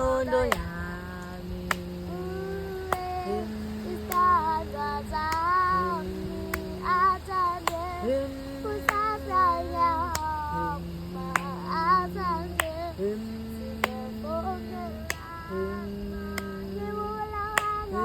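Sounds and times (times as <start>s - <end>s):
voices singing a melody: 0.0s - 18.0s.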